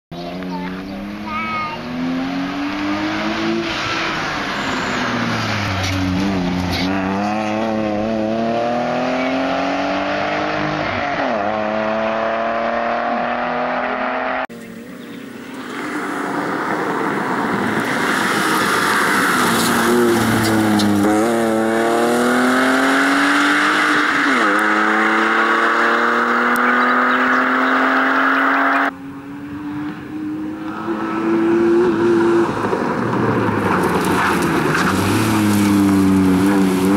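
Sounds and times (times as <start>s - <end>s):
car engine revving: 0.2s - 36.9s.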